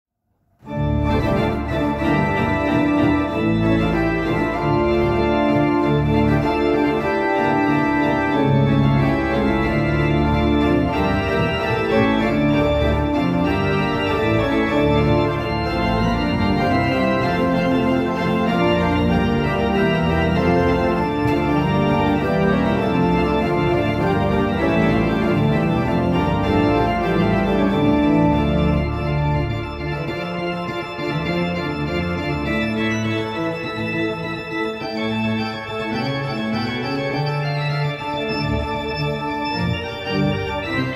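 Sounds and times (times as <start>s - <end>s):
pipe organ improvising: 0.6s - 40.9s.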